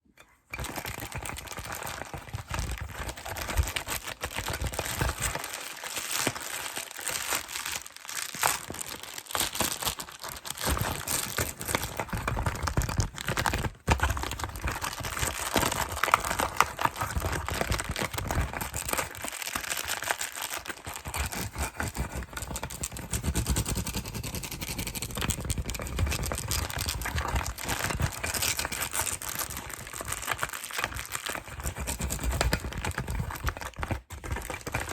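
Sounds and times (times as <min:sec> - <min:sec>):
packaging crinkling: 0:00.5 - 0:34.9.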